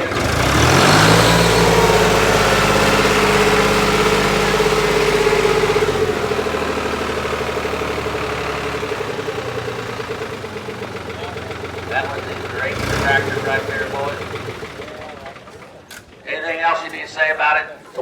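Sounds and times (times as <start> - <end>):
tractor diesel engine revving: 0.0 - 17.3.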